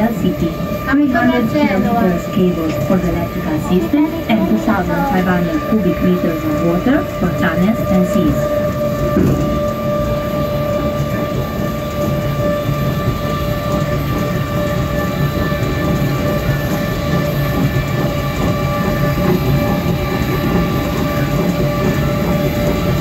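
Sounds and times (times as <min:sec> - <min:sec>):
constant whine: 0:00.0 - 0:23.0
train rumble: 0:00.0 - 0:23.0.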